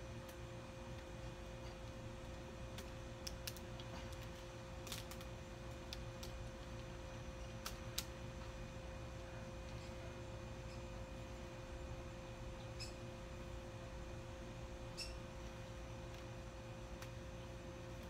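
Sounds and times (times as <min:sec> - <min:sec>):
steady humming tone: 0:00.0 - 0:18.0.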